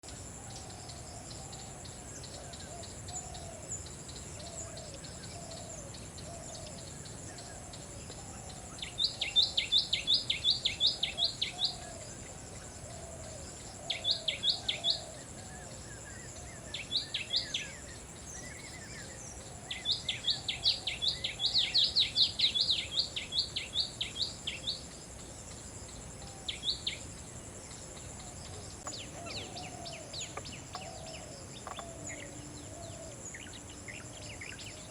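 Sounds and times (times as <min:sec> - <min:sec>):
high insect drone: 0:00.0 - 0:34.9.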